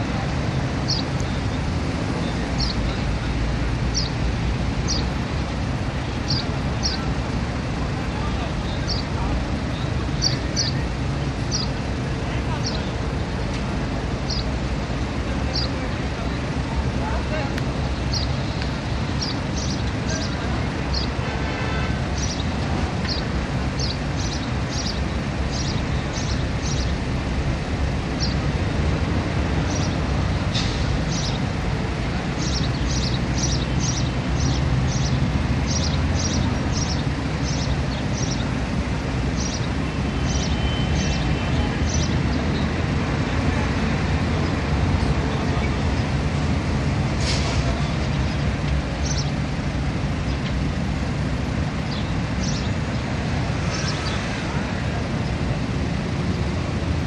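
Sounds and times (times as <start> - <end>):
low outdoor rumble: 0.0 - 57.0
small birds chirping: 0.1 - 21.2, 22.1 - 27.2, 28.0 - 28.6, 29.4 - 46.1, 47.8 - 49.5, 51.8 - 54.4.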